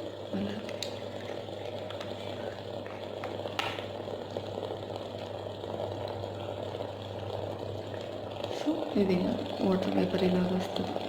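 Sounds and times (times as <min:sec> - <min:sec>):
low steady hum: 0:00.0 - 0:11.0
water boiling: 0:00.0 - 0:11.0.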